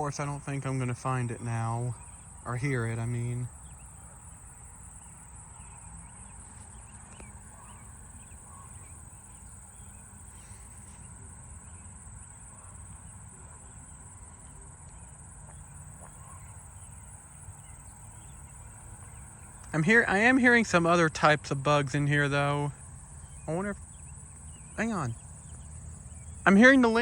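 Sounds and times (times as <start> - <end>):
faint bird chirps: 0.0 - 27.0
insects trilling: 0.0 - 27.0.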